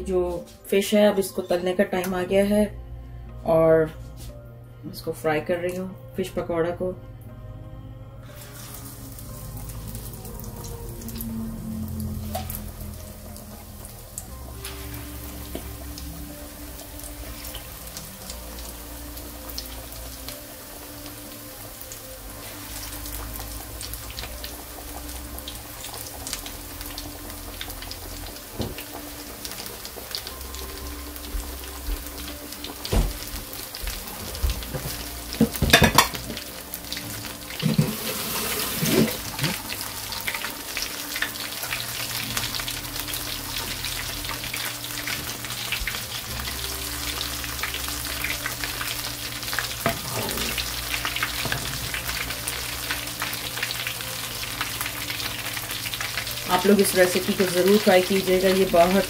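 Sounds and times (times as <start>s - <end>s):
deep-frying sizzle and crackle: 8.2s - 59.0s.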